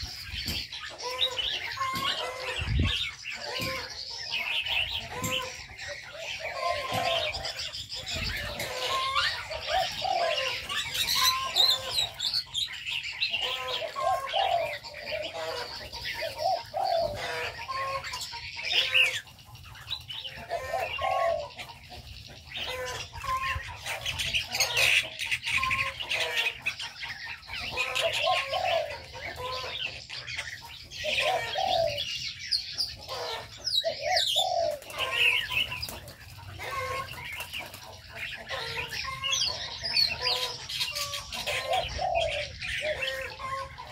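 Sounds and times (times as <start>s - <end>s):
birds chirping and twittering: 0.0s - 43.9s
doves cooing: 0.0s - 43.9s.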